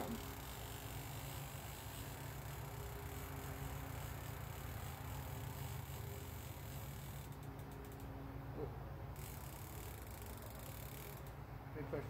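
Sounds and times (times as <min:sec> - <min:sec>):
fishing reel gears rattling: 0:00.0 - 0:08.1, 0:09.1 - 0:11.4.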